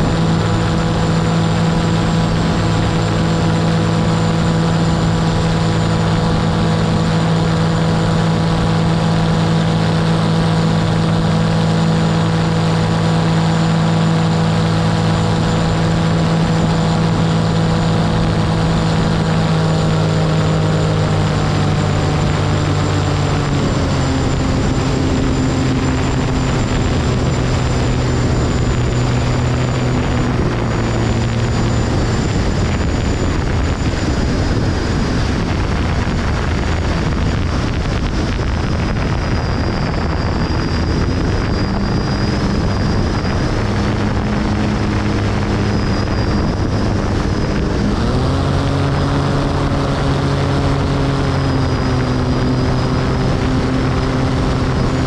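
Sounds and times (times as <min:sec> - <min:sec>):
propeller engine droning: 0:00.0 - 0:55.0
wind noise: 0:00.0 - 0:55.0.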